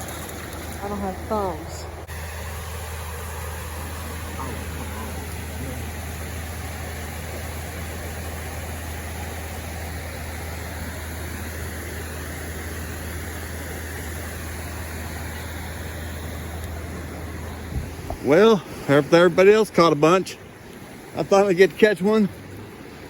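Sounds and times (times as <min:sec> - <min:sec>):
steady rushing noise: 0:00.8 - 0:23.0.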